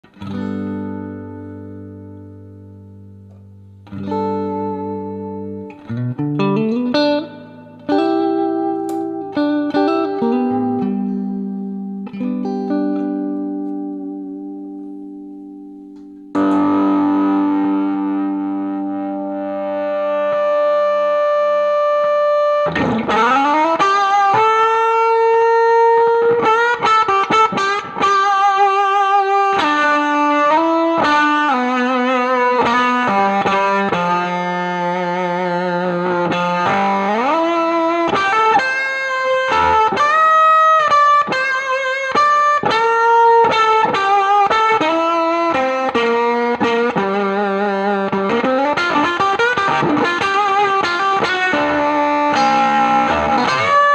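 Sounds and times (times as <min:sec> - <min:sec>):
distorted electric guitar lead: 0:00.0 - 0:53.9.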